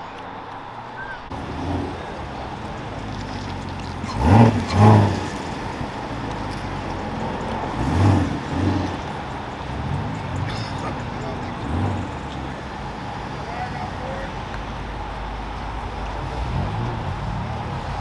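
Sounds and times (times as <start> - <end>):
car engine idling: 1.3 - 18.0
car engine revving: 1.3 - 18.0.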